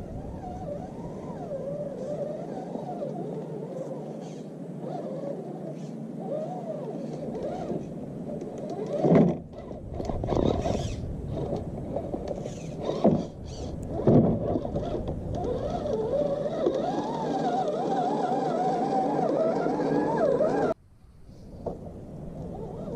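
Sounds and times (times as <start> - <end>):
electric motor and drivetrain whining: 0.0 - 20.8, 22.4 - 22.9.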